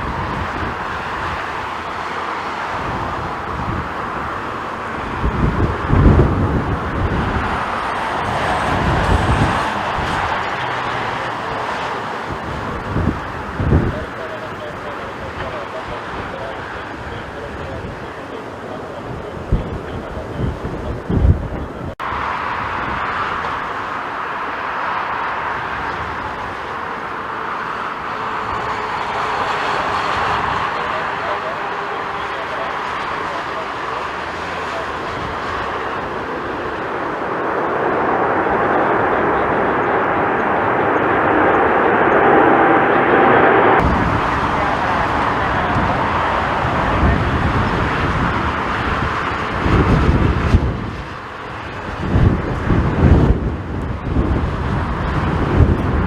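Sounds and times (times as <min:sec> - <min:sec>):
jet engines rushing: 0:00.0 - 0:56.0
wind buffeting microphone: 0:00.0 - 0:56.0.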